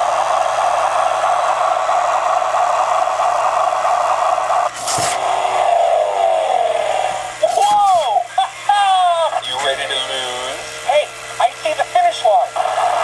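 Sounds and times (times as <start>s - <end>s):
toy plane engine buzzing drone: 0.0s - 7.4s, 9.2s - 13.0s.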